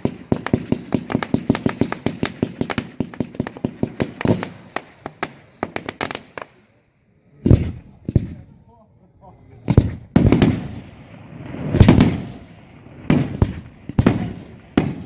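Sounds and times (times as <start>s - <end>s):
fireworks cracking and banging: 0.0s - 6.7s, 7.4s - 8.5s, 9.6s - 15.0s.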